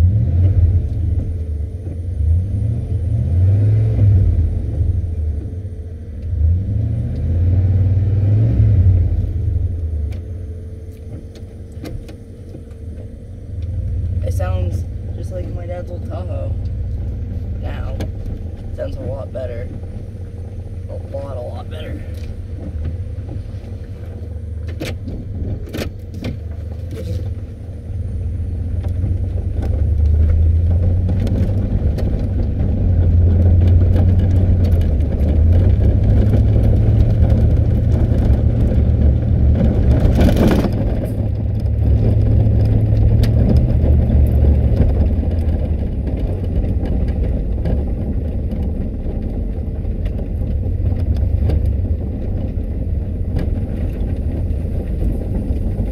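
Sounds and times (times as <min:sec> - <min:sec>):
truck engine and road noise: 0:00.0 - 0:55.9.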